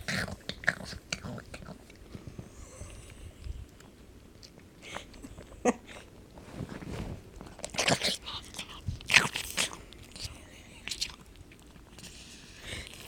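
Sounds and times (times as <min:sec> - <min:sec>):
dog chewing and crunching food: 0:00.0 - 0:05.7, 0:06.6 - 0:13.0.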